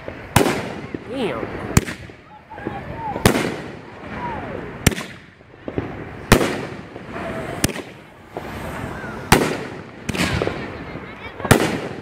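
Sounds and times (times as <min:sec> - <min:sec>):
faint firework pops: 0:00.0 - 0:10.8
firework bangs: 0:00.0 - 0:12.0.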